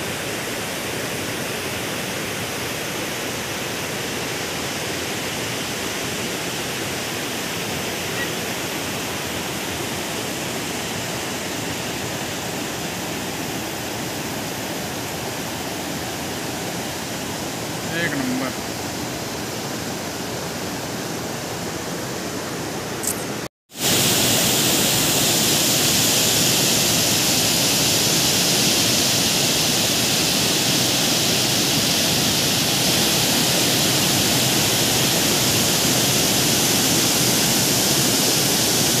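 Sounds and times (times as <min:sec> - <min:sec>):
waterfall rushing over rocks: 0:00.0 - 0:39.0.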